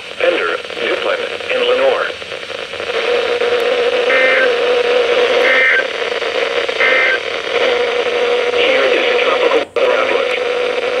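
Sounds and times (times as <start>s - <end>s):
radio static hiss: 0.0s - 11.0s
steady hum: 0.0s - 11.0s
warbling data bursts: 1.1s - 11.0s.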